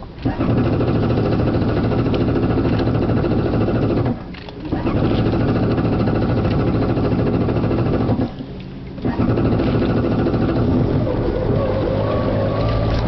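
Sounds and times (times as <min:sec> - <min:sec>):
engine turning over: 0:00.2 - 0:08.4, 0:09.0 - 0:13.0.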